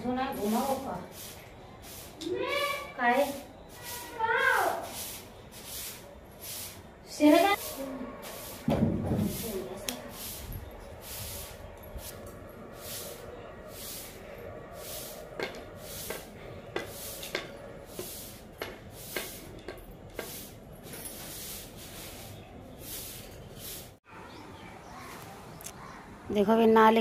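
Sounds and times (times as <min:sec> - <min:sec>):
broom sweeping cement floor: 0:00.0 - 0:24.0.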